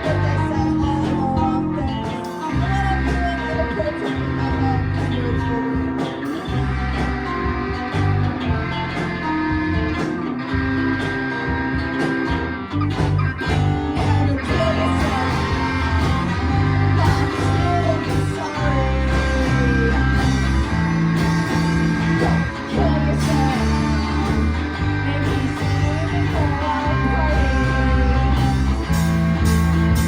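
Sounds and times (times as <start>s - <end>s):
person singing: 0.0s - 9.0s, 13.4s - 30.0s
electric guitar: 0.0s - 30.0s
rock band playing live: 0.0s - 30.0s.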